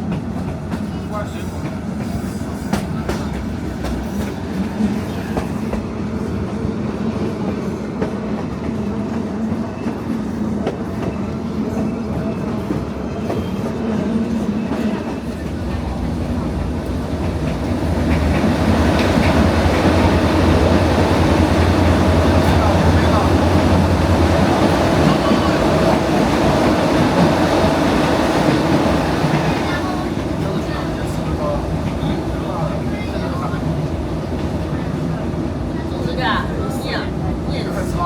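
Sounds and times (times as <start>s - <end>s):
train rumbling along track: 0.0s - 38.0s.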